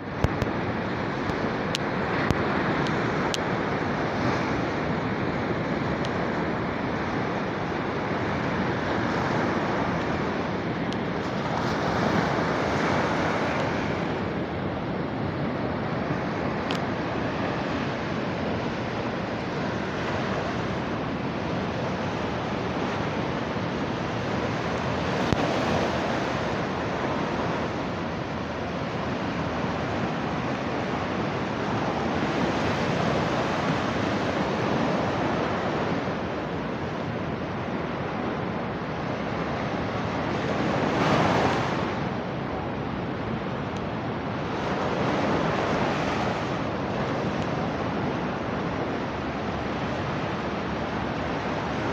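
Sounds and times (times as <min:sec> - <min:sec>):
sea surf breaking on beach: 0:00.0 - 0:51.9.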